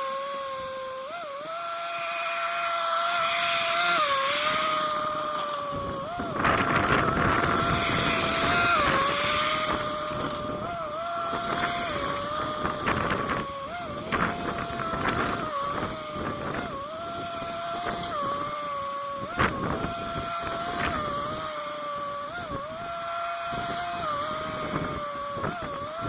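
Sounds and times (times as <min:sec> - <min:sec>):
engine running with whine: 0:00.0 - 0:26.0
rough mechanical noise: 0:00.0 - 0:26.0.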